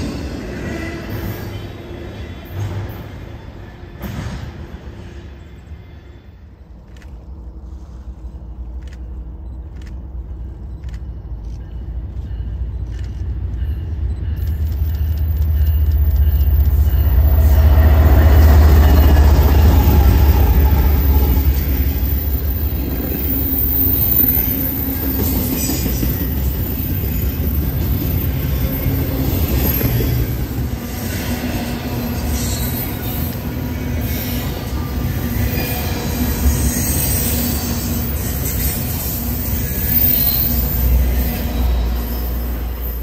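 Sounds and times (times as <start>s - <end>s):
train rumbling past: 0.0s - 43.0s.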